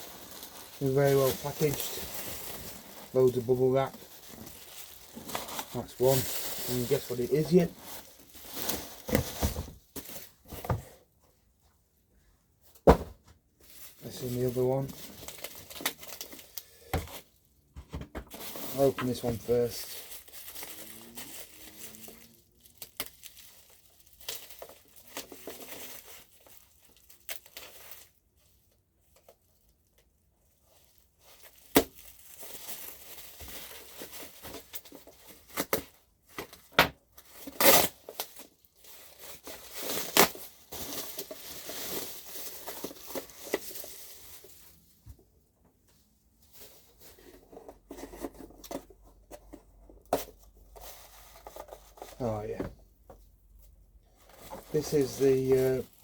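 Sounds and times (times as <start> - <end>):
bubble wrap crinkling and tearing: 0.0 - 10.6, 13.6 - 17.4, 18.3 - 45.0, 50.1 - 52.6, 53.4 - 56.0.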